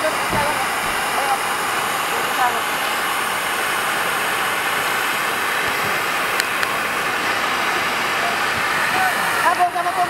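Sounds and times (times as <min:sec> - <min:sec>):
fire rushing noise: 0:00.0 - 0:10.0.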